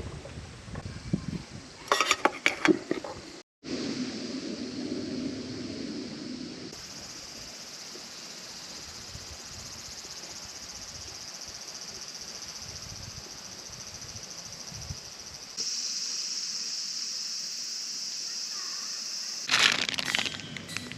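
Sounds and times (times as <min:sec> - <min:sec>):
insects chirring: 0:03.8 - 0:20.9.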